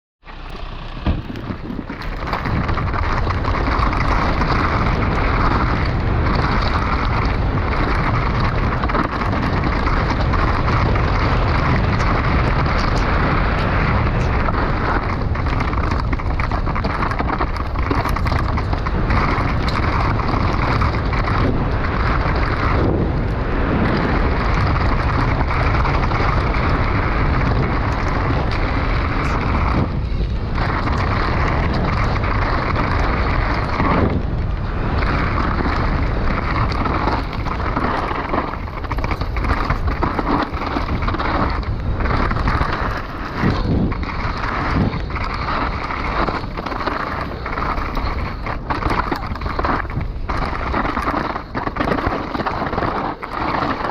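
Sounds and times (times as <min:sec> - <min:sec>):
wind on microphone: 0:01.0 - 0:53.9.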